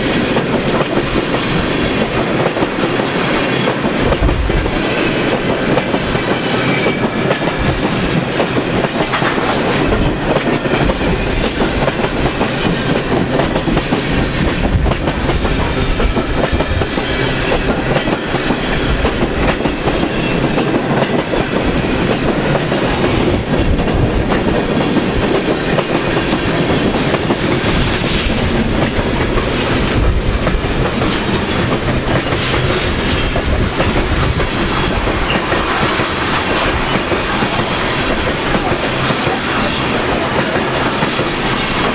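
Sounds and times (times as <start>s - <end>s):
train wheels clattering on rails: 0.0s - 41.9s.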